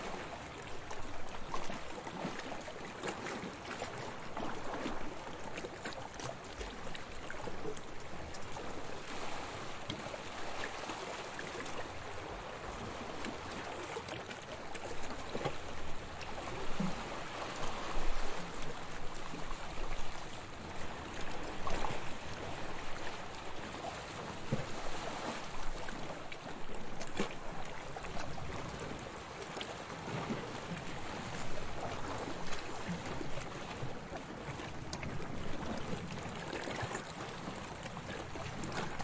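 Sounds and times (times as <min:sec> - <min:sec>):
sea waves lapping: 0:00.0 - 0:39.0.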